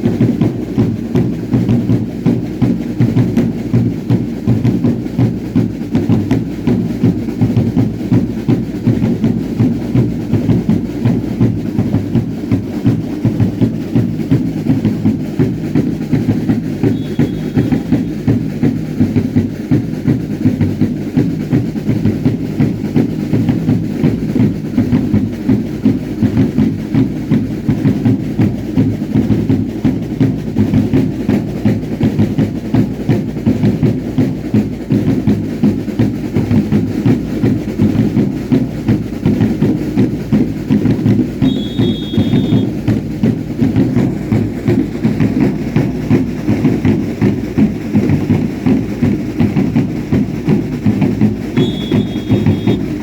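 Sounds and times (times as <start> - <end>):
drums beating fast rhythm: 0.0 - 53.0.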